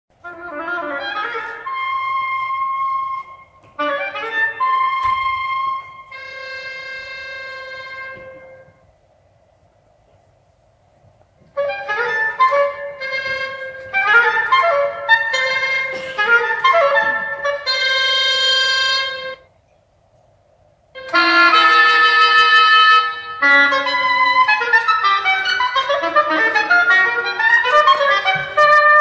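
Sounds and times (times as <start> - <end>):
solo wind instrument music: 0.1 - 9.0, 11.4 - 19.5, 20.9 - 29.0.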